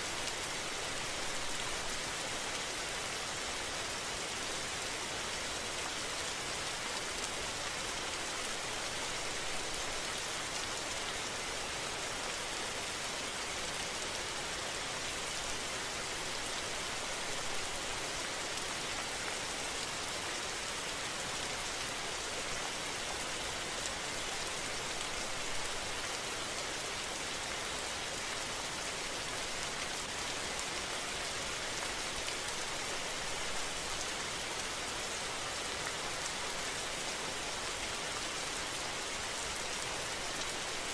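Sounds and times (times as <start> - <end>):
rain on hard surfaces: 0.0 - 40.9.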